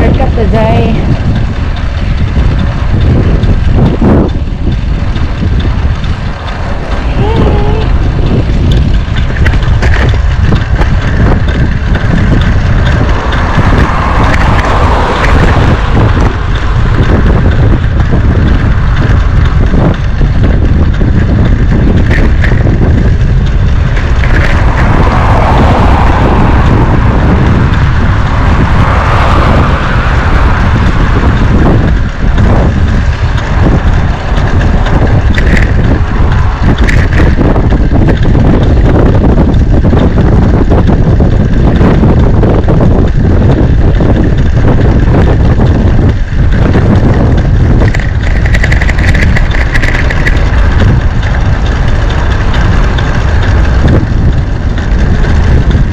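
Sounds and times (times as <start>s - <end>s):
bicycle clicks and rattles: 0.0s - 55.9s
rolling road noise: 0.0s - 55.9s
wind buffeting microphone: 0.0s - 55.9s.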